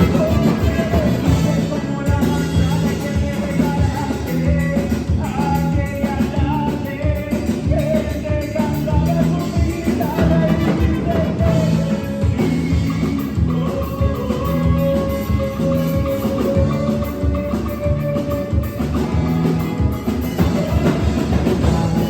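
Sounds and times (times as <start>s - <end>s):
band playing upbeat music: 0.0s - 22.0s
person singing: 0.0s - 22.0s.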